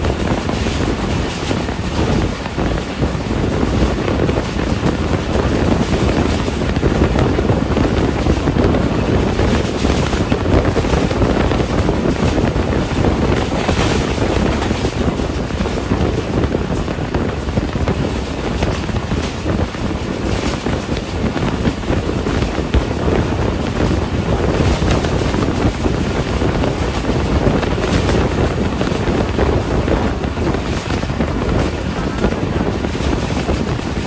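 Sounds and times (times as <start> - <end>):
train rumbling on rails: 0.0 - 34.0
wind rushing over microphone: 0.0 - 34.0.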